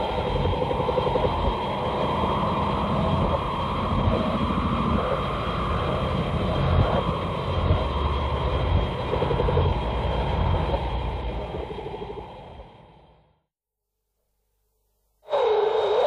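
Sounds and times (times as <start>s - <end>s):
dense low rumble: 0.0s - 13.2s
thin high whine: 0.0s - 13.3s.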